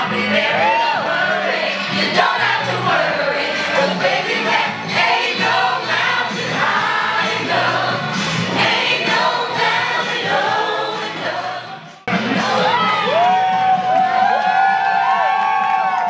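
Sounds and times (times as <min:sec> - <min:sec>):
crowd singing along: 0:00.0 - 0:13.2
dance music: 0:00.0 - 0:16.0.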